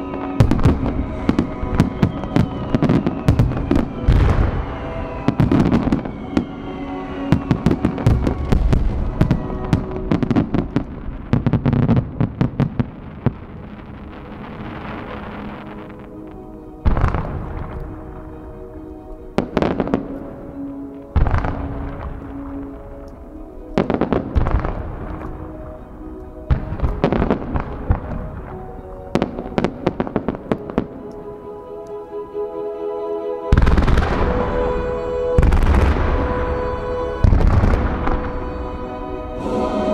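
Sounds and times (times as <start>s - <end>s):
fireworks bursting: 0.0s - 31.8s, 33.5s - 39.9s
music: 0.0s - 39.9s.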